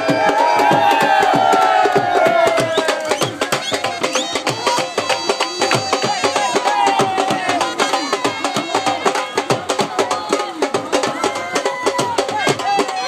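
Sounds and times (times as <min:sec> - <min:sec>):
crowd voices: 0:00.0 - 0:13.0
dhol drums beating: 0:00.0 - 0:13.0.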